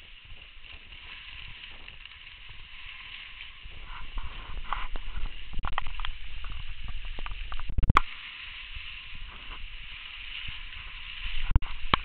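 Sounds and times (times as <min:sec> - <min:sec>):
skis scraping over snow: 0:00.0 - 0:07.5, 0:08.1 - 0:12.0.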